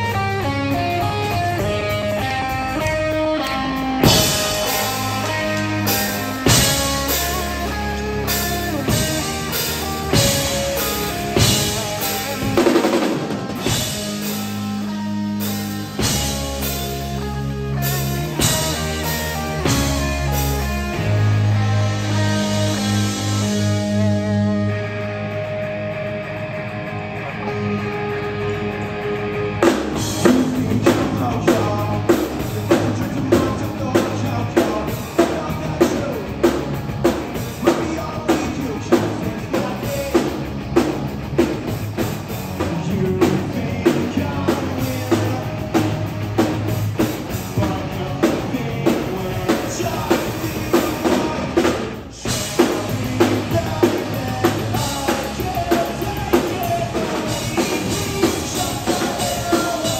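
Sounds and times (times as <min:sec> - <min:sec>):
electric guitar chords: 0:00.0 - 0:59.9
rock band playing: 0:00.0 - 0:59.9.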